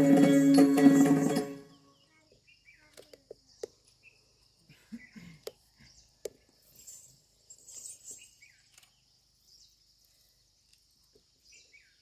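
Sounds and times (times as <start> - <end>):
bird chirps: 1.2 - 12.0.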